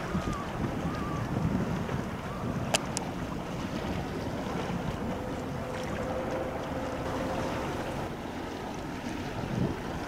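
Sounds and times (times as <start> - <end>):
ship rumble and water on hull: 0.0 - 10.0
wind on microphone: 0.0 - 10.0.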